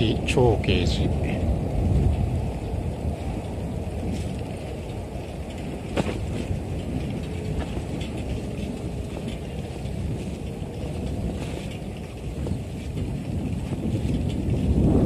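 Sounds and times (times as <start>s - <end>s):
bicycle tyre rolling noise: 0.0s - 15.0s
wind rumbling on microphone: 0.0s - 15.0s.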